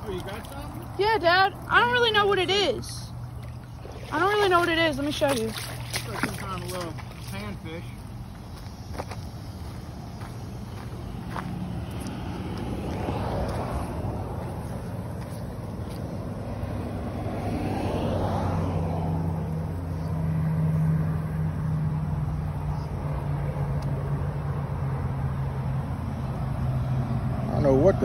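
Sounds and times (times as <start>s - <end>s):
low engine hum: 0.0s - 28.0s
vehicle passing by: 0.0s - 28.0s.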